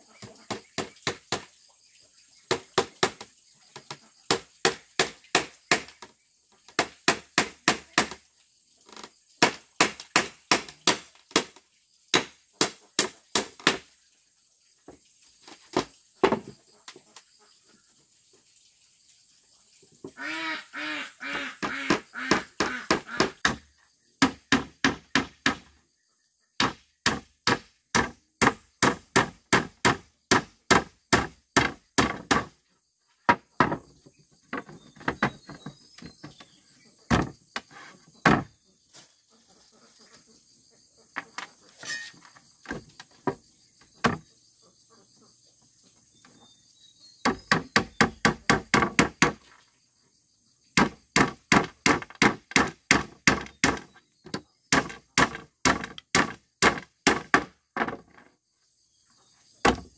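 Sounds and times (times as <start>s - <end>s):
insect chirring: 0.0s - 59.9s.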